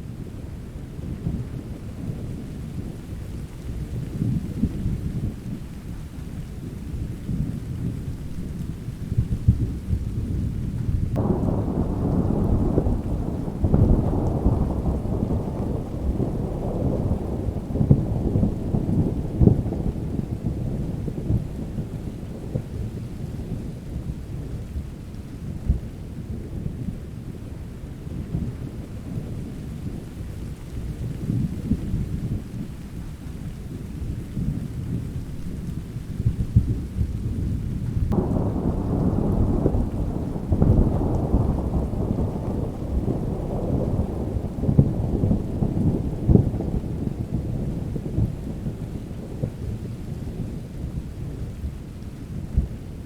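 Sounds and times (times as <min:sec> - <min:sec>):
steady rain: 0:00.0 - 0:53.0
thunder rumbling: 0:00.0 - 0:53.0
loud roll of thunder: 0:00.9 - 0:27.1, 0:33.4 - 0:53.0.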